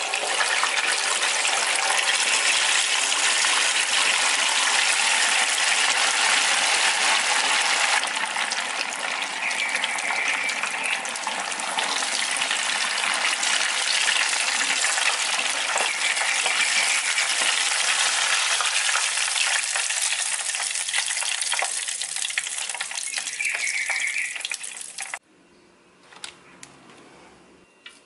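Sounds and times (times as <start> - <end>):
chicken deep-frying in oil: 0.0 - 25.2.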